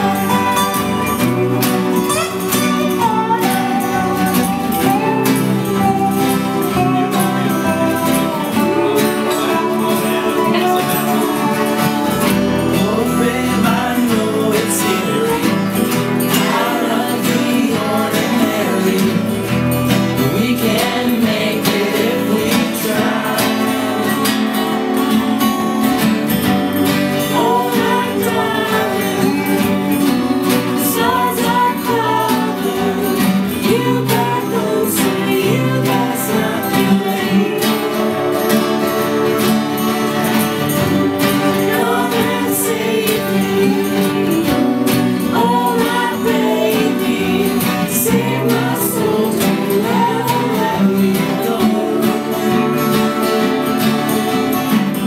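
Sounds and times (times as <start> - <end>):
woman singing: 0.0 - 54.0
acoustic guitars strumming: 0.0 - 55.0
resonator guitar: 0.0 - 55.0.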